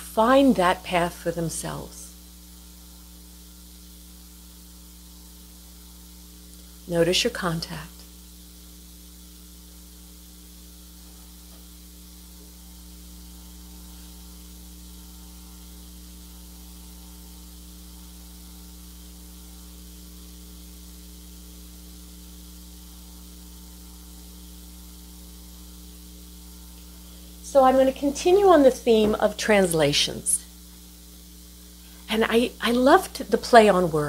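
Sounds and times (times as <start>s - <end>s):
electrical mains hum: 0.0s - 34.0s
even hiss: 0.0s - 34.0s.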